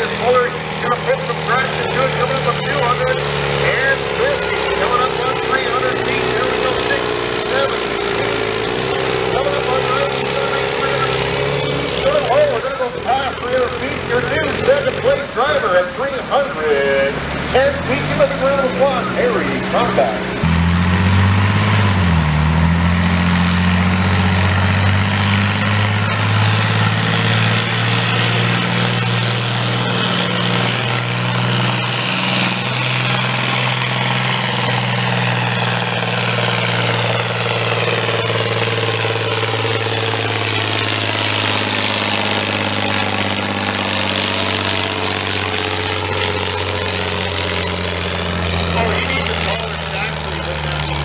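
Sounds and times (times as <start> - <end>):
tractor diesel engine at high revs: 0.0 - 51.0.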